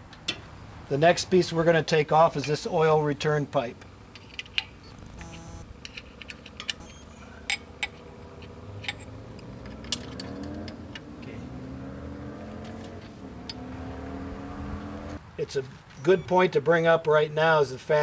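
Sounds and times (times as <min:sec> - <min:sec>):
engine running in background: 0:00.0 - 0:16.5.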